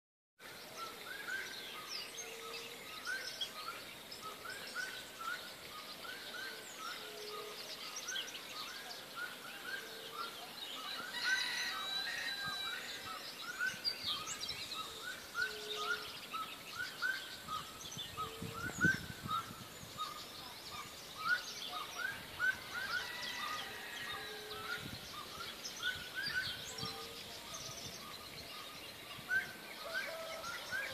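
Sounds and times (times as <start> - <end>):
birds chirping: 0.6 - 30.9.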